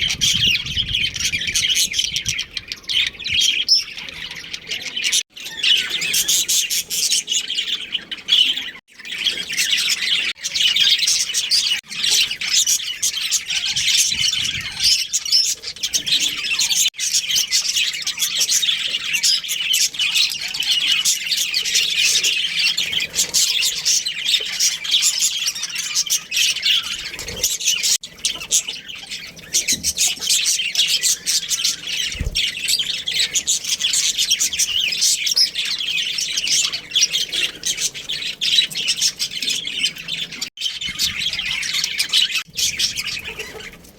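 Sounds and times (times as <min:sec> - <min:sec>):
budgerigars chirping: 0:00.0 - 0:43.9.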